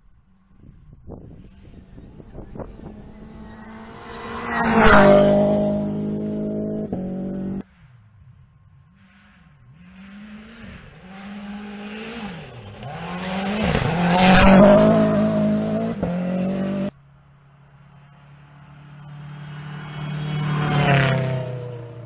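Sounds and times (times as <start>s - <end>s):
rally car engine revving: 1.1s - 17.0s, 18.0s - 22.0s.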